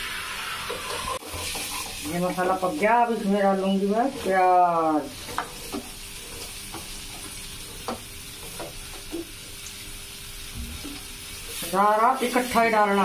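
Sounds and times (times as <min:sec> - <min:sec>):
spices sizzling in pan: 0:00.0 - 0:13.0.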